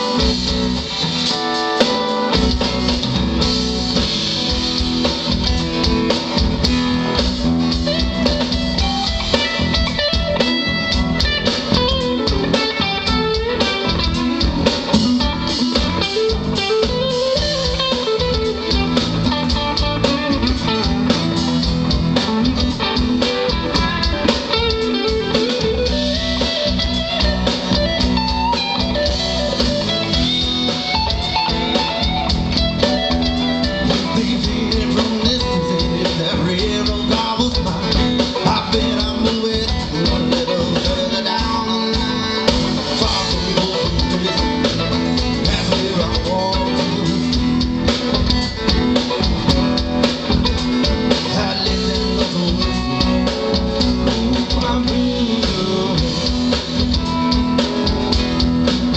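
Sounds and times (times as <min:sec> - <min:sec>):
live band playing: 0:00.0 - 0:58.9.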